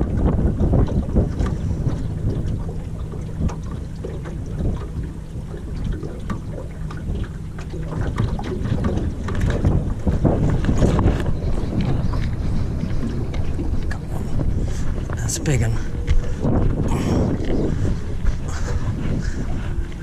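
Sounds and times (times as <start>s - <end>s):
gusty wind on microphone: 0.0s - 20.0s.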